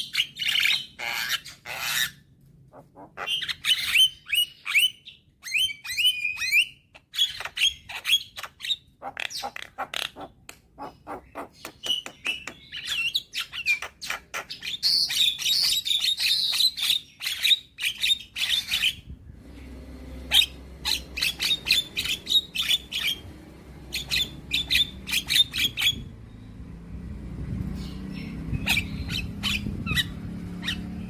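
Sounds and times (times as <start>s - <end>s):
bird chattering song: 0.0s - 2.2s, 2.8s - 31.0s.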